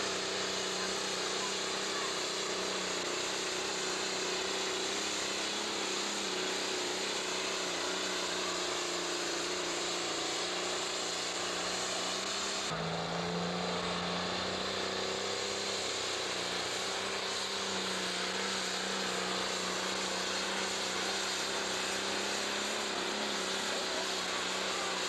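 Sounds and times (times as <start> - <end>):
tractor diesel engine at high revs: 0.0 - 25.0.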